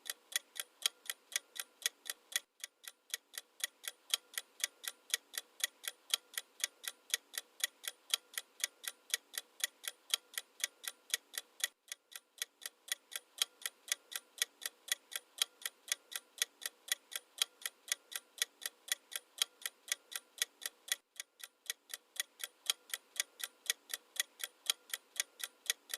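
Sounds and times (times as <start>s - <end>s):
clock ticking: 0.0s - 25.9s.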